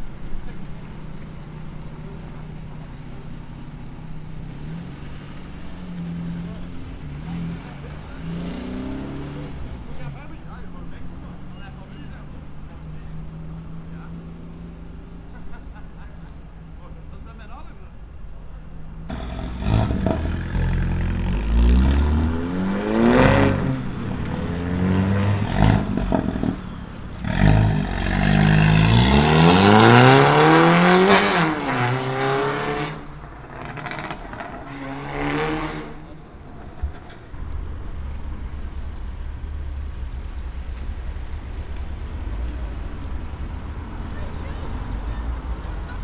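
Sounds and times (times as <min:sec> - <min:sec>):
car engine revving: 0:00.0 - 0:15.4, 0:18.9 - 0:46.0.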